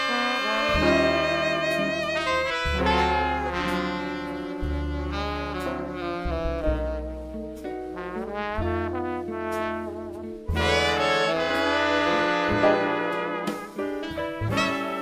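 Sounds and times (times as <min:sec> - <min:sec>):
jazz horn section playing chords: 0:00.0 - 0:15.0
long low notes: 0:00.4 - 0:15.0.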